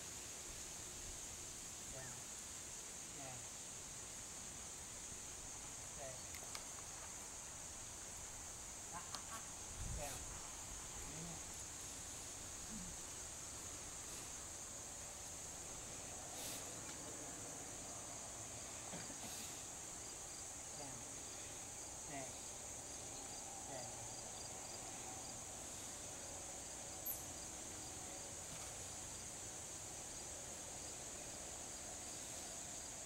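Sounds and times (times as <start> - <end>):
insects droning in grass: 0.0 - 33.0.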